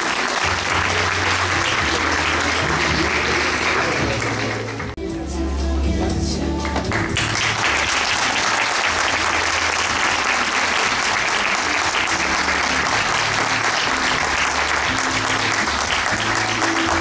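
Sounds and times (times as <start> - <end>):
audience applauding: 0.0 - 5.0, 6.6 - 17.0
music playing low: 0.0 - 17.0.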